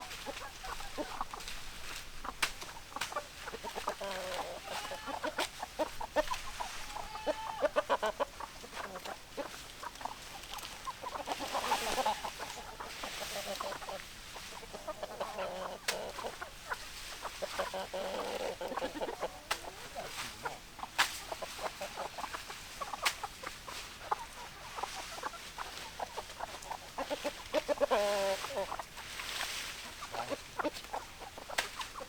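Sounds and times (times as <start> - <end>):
hens clucking: 0.0 - 32.0.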